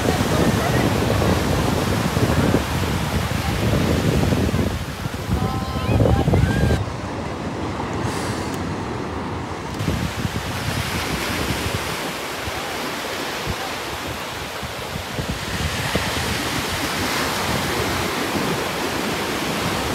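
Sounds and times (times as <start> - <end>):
ocean surf breaking on beach: 0.0 - 19.9
wind buffeting microphone: 0.0 - 19.9.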